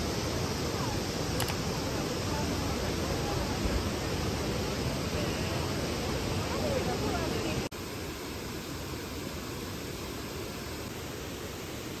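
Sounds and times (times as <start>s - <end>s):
waterfalls rushing: 0.0s - 12.0s.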